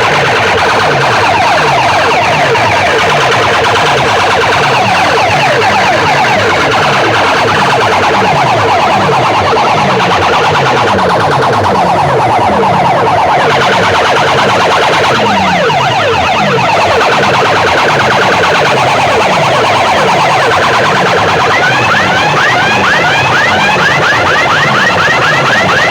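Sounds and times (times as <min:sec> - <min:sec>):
electronic siren effects: 0:00.0 - 0:25.9.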